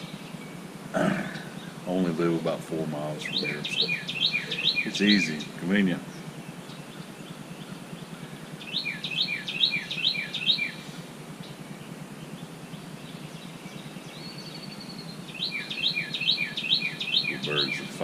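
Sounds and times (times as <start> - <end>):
low background noise: 0.0 - 18.0
songbird singing: 0.0 - 18.0.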